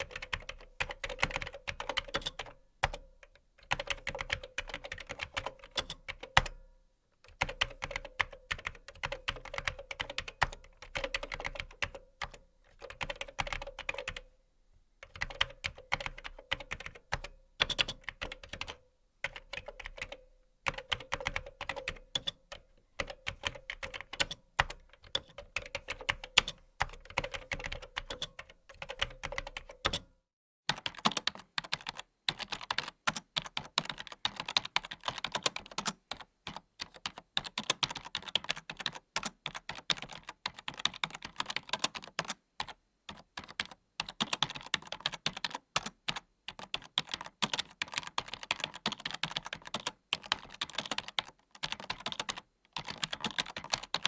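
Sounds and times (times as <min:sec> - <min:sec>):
keyboard typing: 0:00.0 - 0:06.6, 0:07.2 - 0:14.3, 0:15.0 - 0:30.1, 0:30.7 - 0:54.0.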